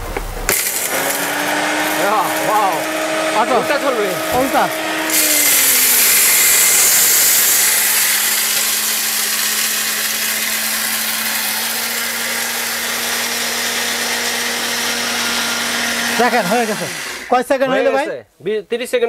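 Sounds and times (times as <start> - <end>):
grinding rice: 0.5 - 17.3
mixer grinder motor whine: 0.5 - 17.3.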